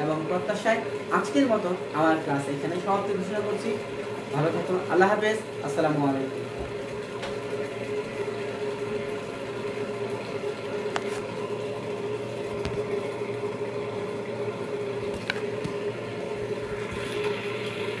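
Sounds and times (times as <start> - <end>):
room hum with constant tone: 0.0 - 18.0.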